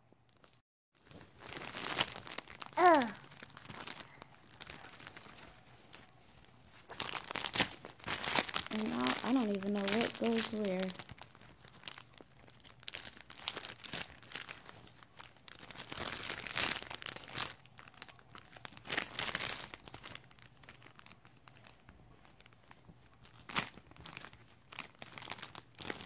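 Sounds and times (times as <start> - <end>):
plastic bags crinkling: 0.3 - 26.0.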